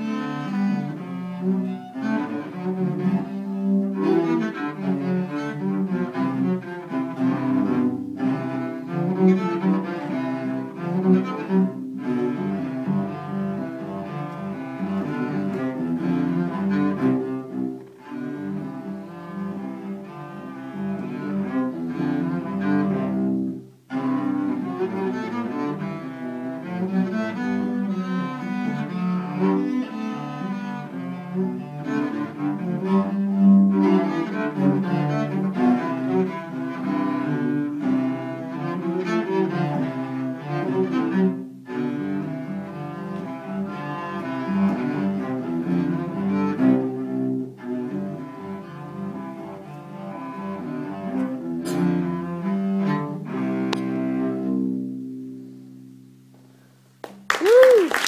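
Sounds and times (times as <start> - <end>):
cellos playing a duet: 0.0 - 56.1.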